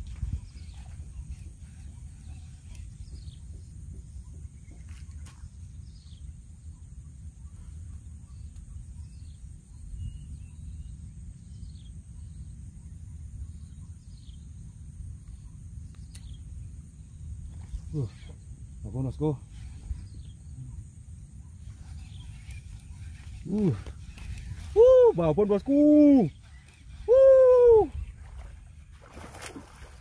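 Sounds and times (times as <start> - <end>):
wind rumbling on microphone: 0.0 - 30.0
high insect drone: 5.4 - 30.0.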